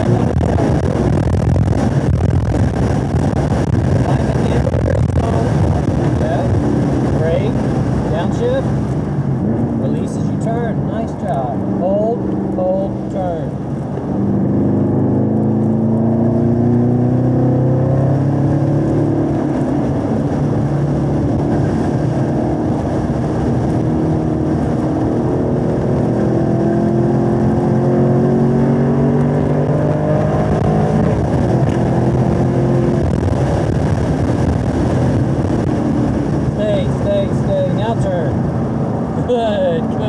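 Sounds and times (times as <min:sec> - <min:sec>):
car engine accelerating hard: 0:00.0 - 0:40.0.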